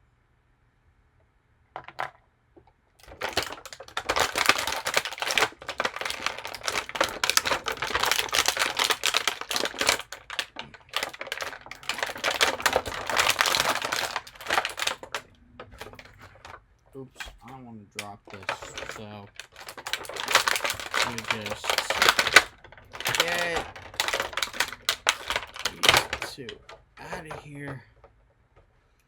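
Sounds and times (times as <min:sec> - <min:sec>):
plastic packaging crackling: 0:03.0 - 0:28.1.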